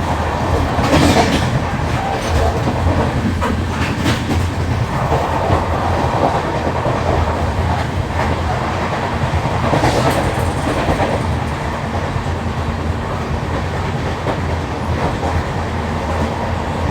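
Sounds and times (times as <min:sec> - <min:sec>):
train rumbling on track: 0:00.0 - 0:16.9.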